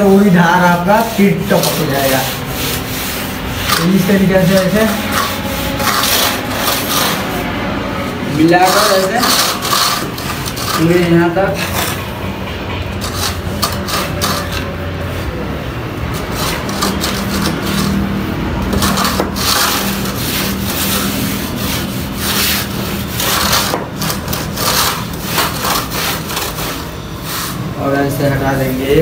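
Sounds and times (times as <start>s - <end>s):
plaster float scraping cement: 0.0s - 7.4s, 8.3s - 12.2s, 13.0s - 15.3s, 16.1s - 29.0s.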